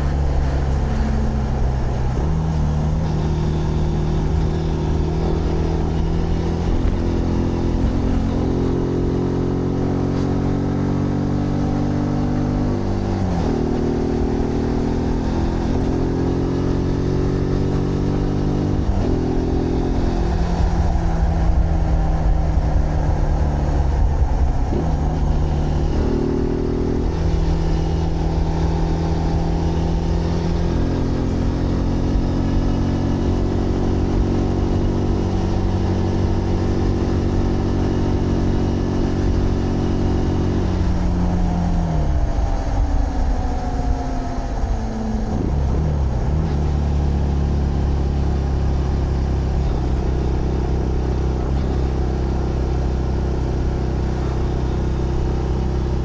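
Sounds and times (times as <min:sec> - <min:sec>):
low wind rumble: 0:00.0 - 0:56.0
motorcycle engine running: 0:00.0 - 0:56.0.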